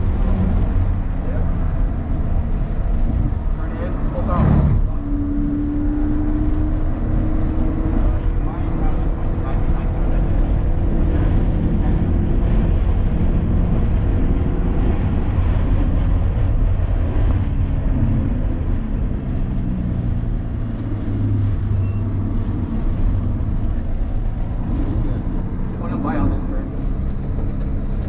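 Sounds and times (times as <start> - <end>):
car engine pulling hard: 0.0 - 28.0
road and wind noise: 0.0 - 28.0.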